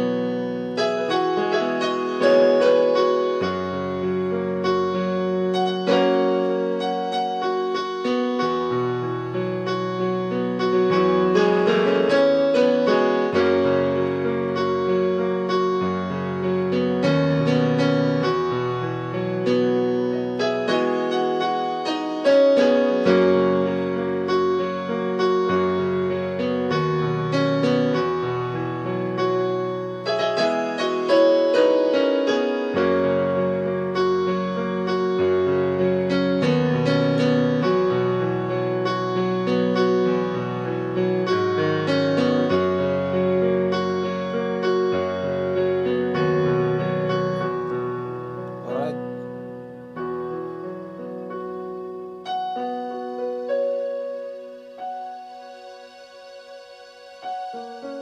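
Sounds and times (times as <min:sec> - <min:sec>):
keyboard playing worship music: 0:00.0 - 0:58.0.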